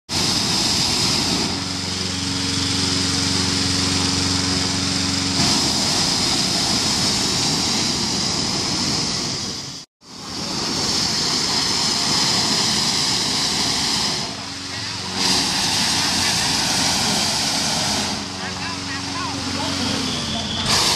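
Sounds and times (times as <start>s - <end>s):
inflator fan rushing air: 0.1s - 20.9s.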